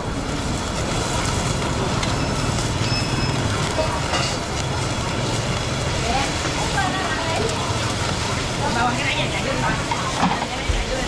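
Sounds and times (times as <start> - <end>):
gas burners roaring: 0.0 - 11.0
meat and egg sizzling: 0.0 - 11.0.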